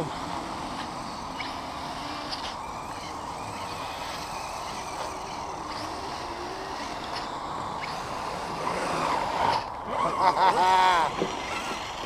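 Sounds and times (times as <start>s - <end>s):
small electric motor whine: 0.0s - 12.0s.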